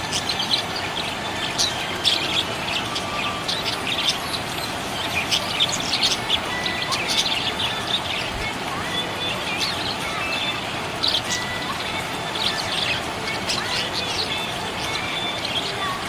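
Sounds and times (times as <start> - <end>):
budgerigars chirping: 0.0 - 15.9.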